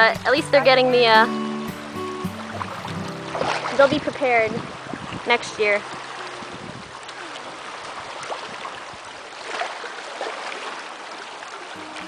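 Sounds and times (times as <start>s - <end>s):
river water rushing and lapping: 0.0s - 12.0s.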